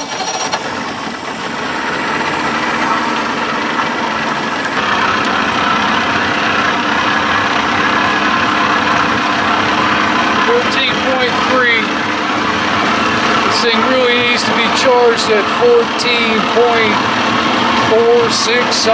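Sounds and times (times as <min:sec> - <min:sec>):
outboard motor idling: 0:00.0 - 0:18.9.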